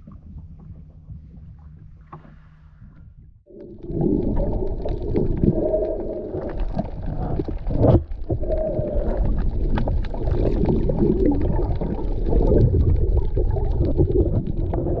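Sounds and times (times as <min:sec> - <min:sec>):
underwater clicks and bubbling: 0:00.0 - 0:15.0
underwater rumble of water: 0:00.0 - 0:15.0.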